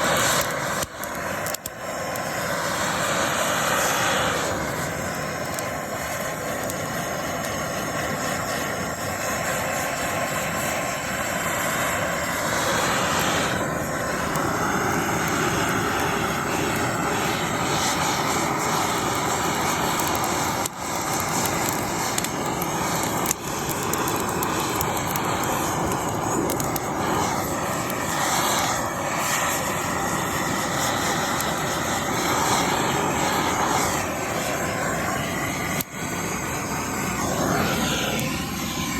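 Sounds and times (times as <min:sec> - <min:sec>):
blowtorch flame roaring: 0:00.0 - 0:38.9.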